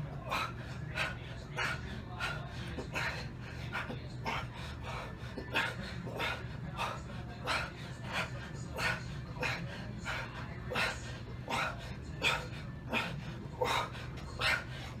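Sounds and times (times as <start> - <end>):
steady low hum: 0.0 - 15.0
man breathing hard: 0.2 - 15.0.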